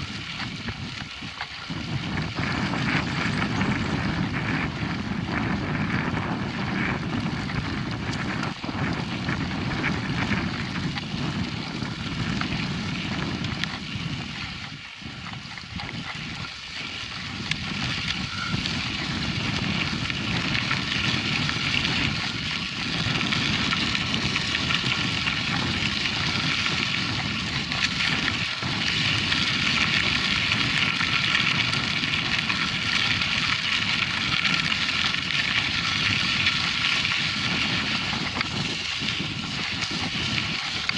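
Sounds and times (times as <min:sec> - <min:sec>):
bike tyres rumbling on dirt: 0:00.0 - 0:40.9
wind buffeting microphone: 0:00.0 - 0:40.9.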